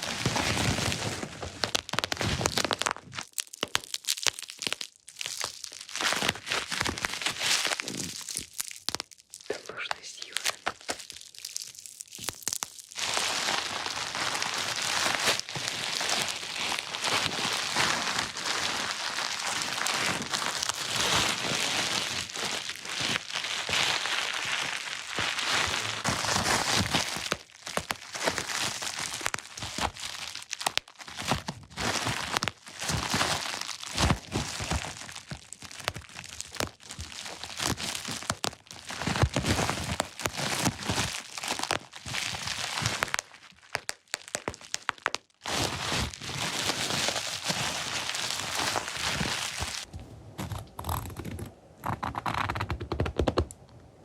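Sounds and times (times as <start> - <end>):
crinkly material crackling: 0.0 - 53.8.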